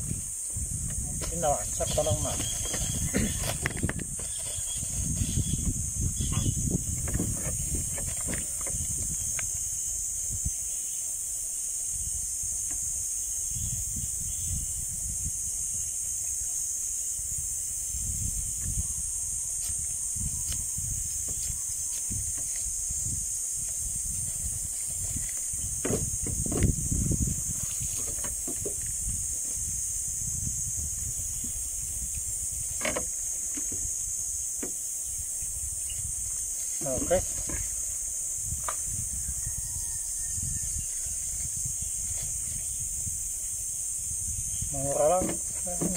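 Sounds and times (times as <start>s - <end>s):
steady high hiss: 0.0s - 45.9s
wind rumble on microphone: 0.0s - 45.9s.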